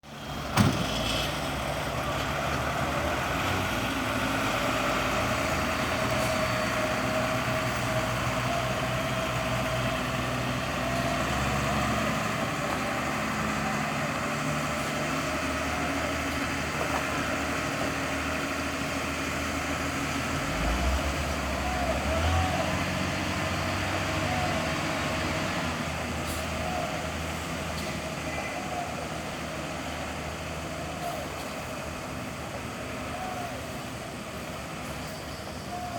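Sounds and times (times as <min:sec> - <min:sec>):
diesel truck engine running: 0:00.0 - 0:35.9.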